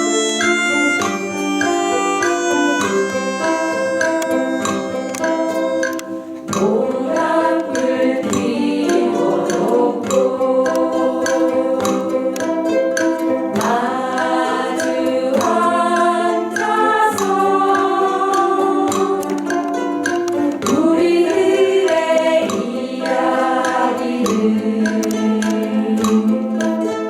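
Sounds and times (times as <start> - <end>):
group singing in unison: 0.0 - 27.0
ukuleles strumming: 0.0 - 27.0.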